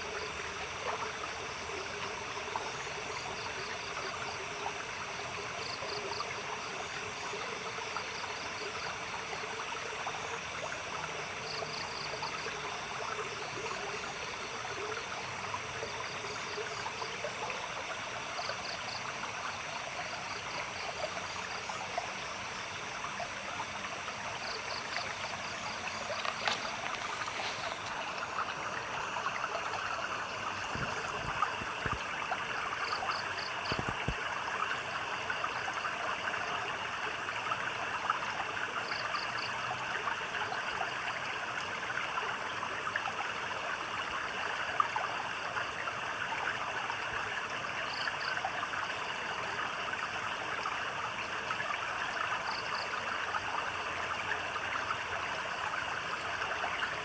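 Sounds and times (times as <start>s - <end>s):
stream babbling over stones: 6.4s - 57.0s.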